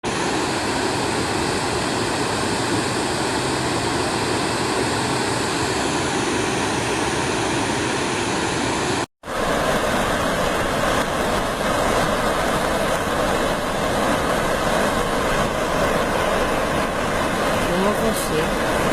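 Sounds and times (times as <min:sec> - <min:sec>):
waterfall rushing: 0:00.1 - 0:18.9.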